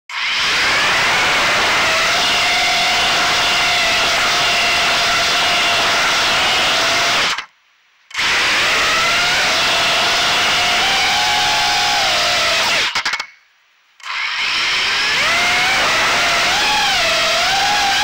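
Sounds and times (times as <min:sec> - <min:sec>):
quadcopter motors whining: 0:00.1 - 0:07.5, 0:08.1 - 0:13.0, 0:14.0 - 0:18.0.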